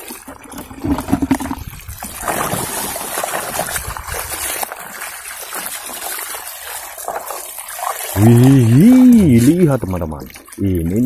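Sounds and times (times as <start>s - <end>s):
pouring stream of water: 0.0s - 11.0s
water splashing in a bucket: 0.0s - 11.0s.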